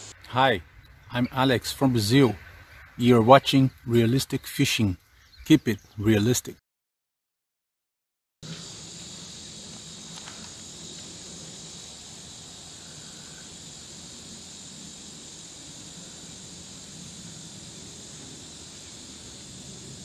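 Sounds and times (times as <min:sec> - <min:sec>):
insects buzzing: 0:00.0 - 0:05.8, 0:08.4 - 0:20.0.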